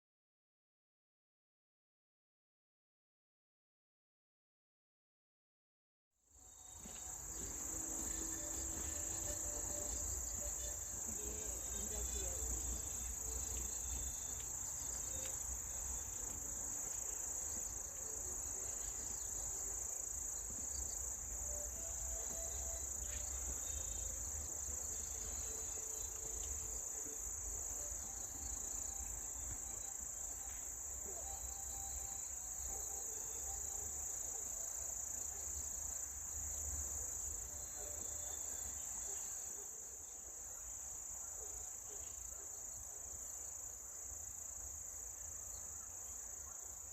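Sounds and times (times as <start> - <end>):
crickets chirping: 6.3 - 46.9.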